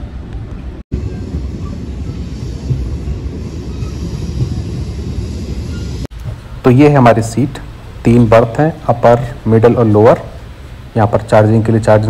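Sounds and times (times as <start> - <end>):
train low rumble from aboard: 0.0 - 12.0.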